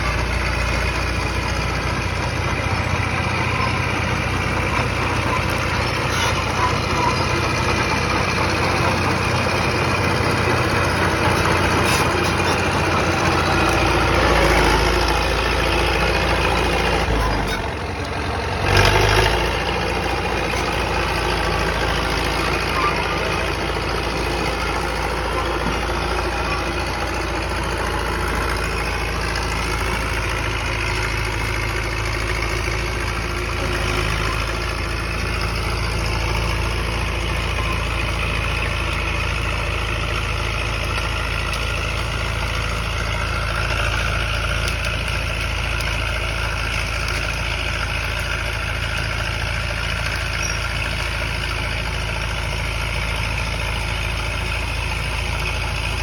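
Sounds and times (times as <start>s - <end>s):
dozer diesel engine running: 0.0s - 56.0s.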